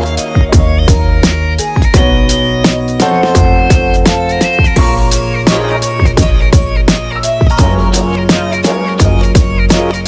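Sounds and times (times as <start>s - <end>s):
instrumental music with drum beat: 0.0s - 10.0s.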